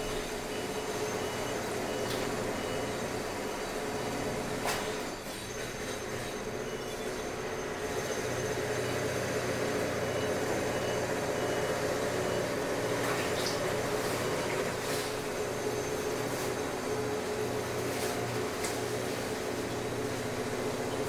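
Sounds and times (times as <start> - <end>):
construction machinery drone: 0.0 - 21.0.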